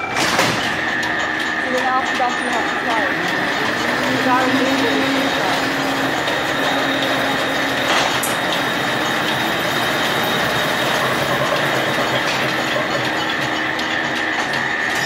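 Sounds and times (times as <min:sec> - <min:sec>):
mill machinery running: 0:00.0 - 0:15.0.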